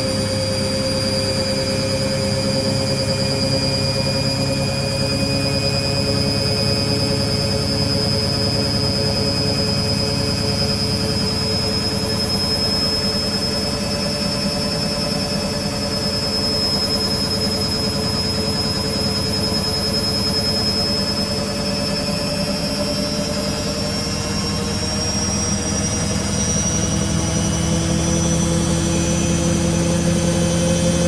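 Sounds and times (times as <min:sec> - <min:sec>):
washing machine spinning: 0:06.1 - 0:31.0.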